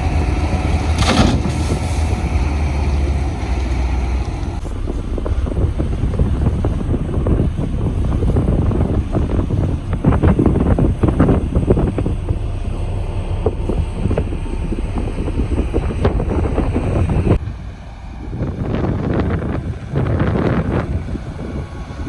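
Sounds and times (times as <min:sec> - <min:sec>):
diesel machinery rumbling: 0:00.0 - 0:22.0
wind buffeting microphone: 0:00.0 - 0:22.0.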